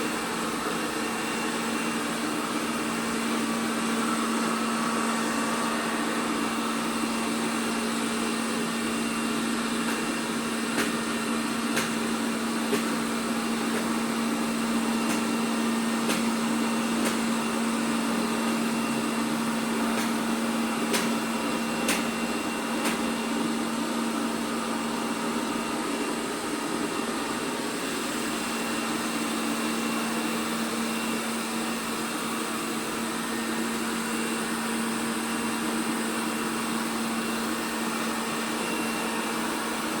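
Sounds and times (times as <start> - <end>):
robot vacuum motor and fan: 0.0 - 40.0.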